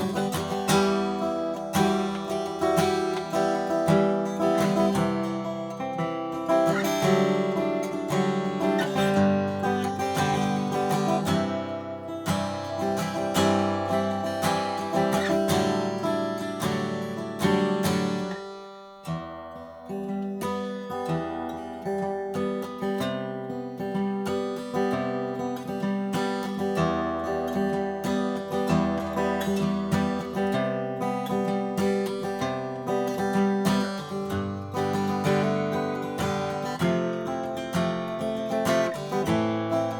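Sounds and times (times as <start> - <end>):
acoustic guitar playing chords: 0.0 - 39.9.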